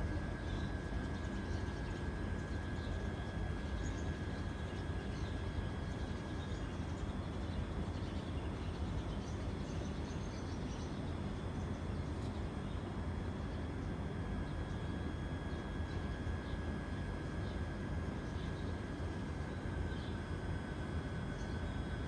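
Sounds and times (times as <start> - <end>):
faint constant whine: 0.0 - 22.0.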